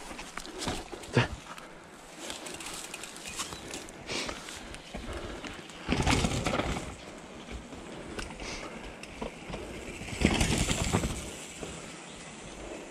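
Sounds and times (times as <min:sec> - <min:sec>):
bike tyres rolling on dirt: 0:00.0 - 0:12.9.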